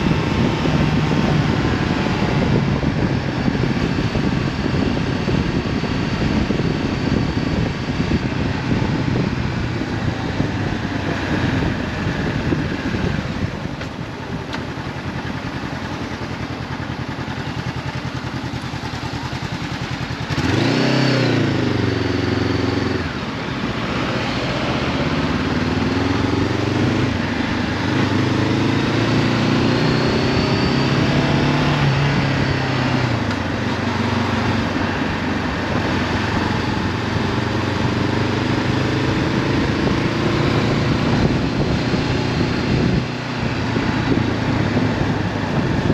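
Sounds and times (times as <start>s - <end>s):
motorcycle engine revving: 0.0s - 45.9s
wind noise on microphone: 0.0s - 45.9s.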